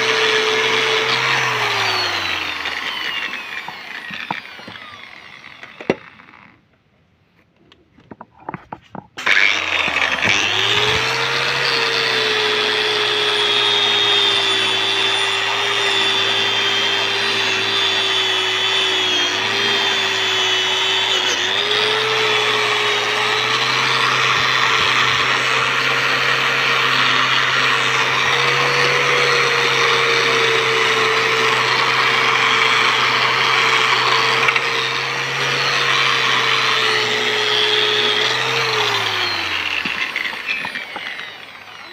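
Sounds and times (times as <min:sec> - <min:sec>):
electric grinder motor whine: 0:00.0 - 0:06.6, 0:09.2 - 0:41.9.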